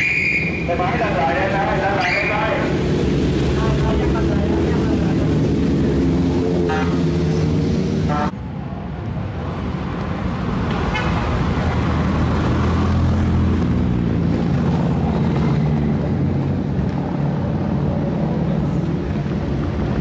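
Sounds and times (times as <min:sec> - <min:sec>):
motorcycles riding past: 0:00.4 - 0:08.3, 0:10.8 - 0:20.0.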